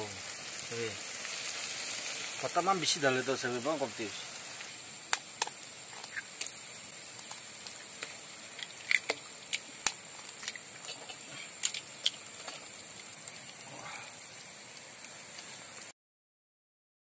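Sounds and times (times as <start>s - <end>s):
hot oil crackling in a wok: 0.0s - 16.0s.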